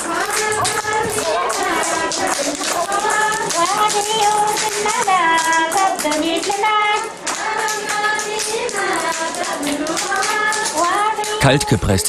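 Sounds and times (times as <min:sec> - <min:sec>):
quick tapping or clapping beat: 0:00.0 - 0:11.8
high voices singing a chant: 0:00.0 - 0:12.0.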